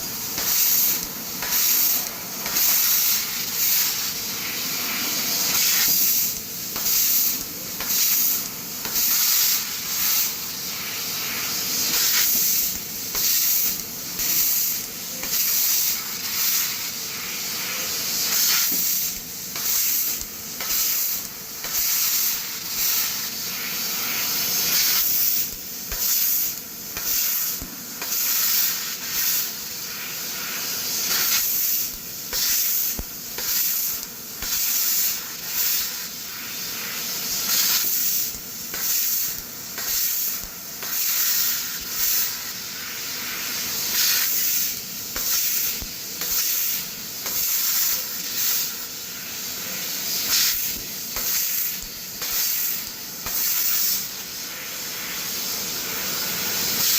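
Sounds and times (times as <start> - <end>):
laser cutter hissing: 0.0 - 56.9.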